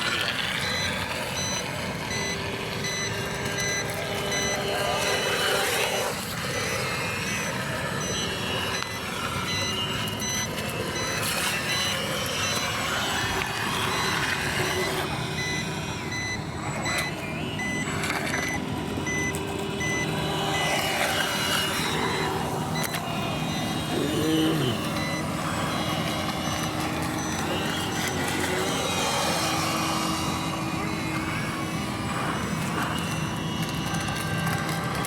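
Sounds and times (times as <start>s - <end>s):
electronic beeper beeping: 0.0s - 34.7s
outdoor noise: 0.0s - 35.0s.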